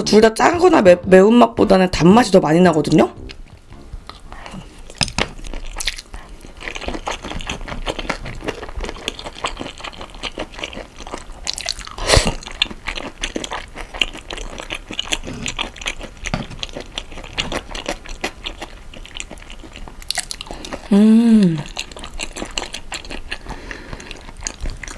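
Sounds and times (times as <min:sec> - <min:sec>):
close chewing with mouth clicks: 0:03.4 - 0:24.9.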